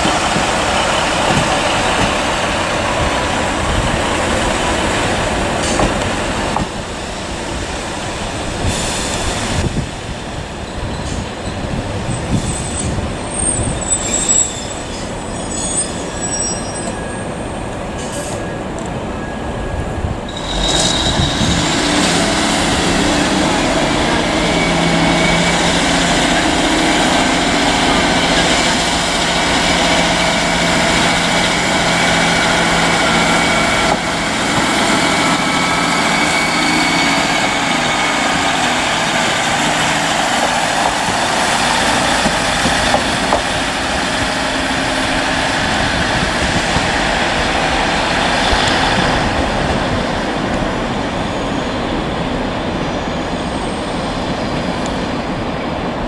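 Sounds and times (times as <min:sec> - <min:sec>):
passenger train running: 0:00.0 - 0:56.0.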